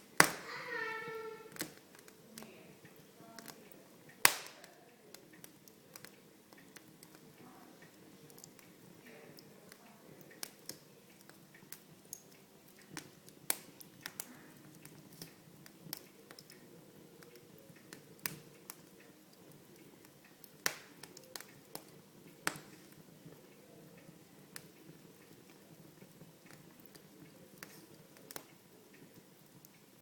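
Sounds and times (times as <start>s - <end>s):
faint steady hiss: 0.0s - 30.0s
wood fire crackling: 0.0s - 30.0s.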